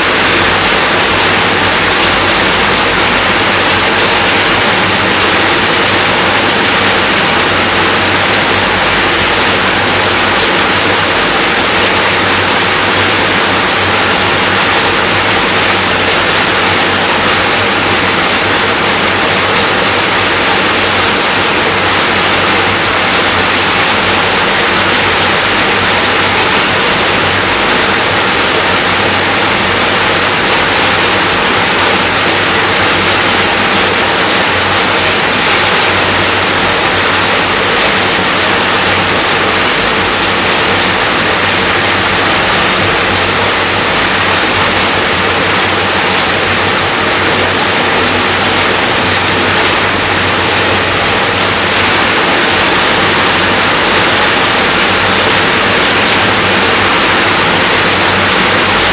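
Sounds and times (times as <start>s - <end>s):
heavy rainfall: 0.0s - 58.9s.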